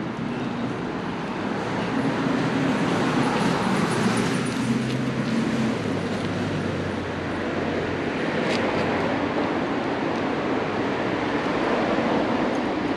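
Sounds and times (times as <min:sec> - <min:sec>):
road noise: 0:00.0 - 0:12.9.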